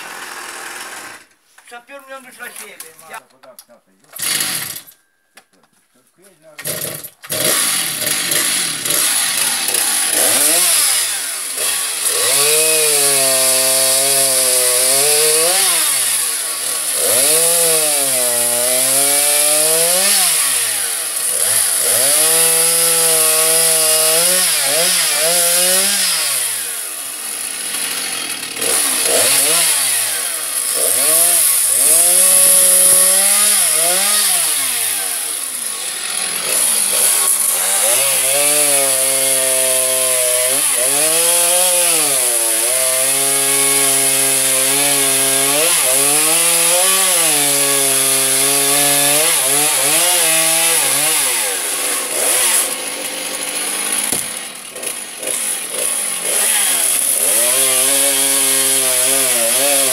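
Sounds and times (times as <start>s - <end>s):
chainsaw cutting wood: 0.0s - 1.4s, 4.1s - 5.0s, 6.5s - 59.9s
chainsaw revving: 0.0s - 1.4s, 4.1s - 4.9s, 6.6s - 59.9s.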